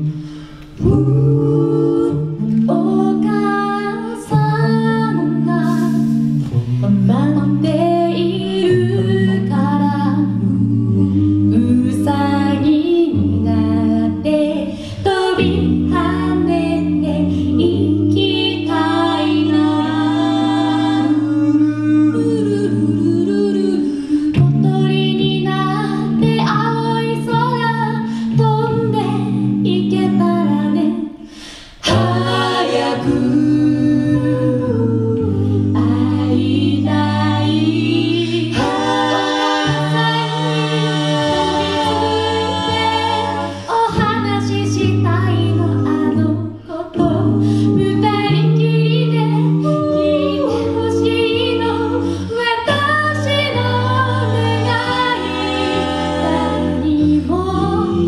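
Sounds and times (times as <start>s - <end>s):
a cappella group singing: 0.0s - 58.0s.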